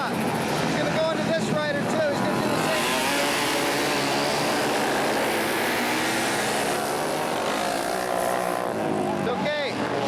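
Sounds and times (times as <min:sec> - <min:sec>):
racing motorcycles engines droning: 0:00.0 - 0:10.0.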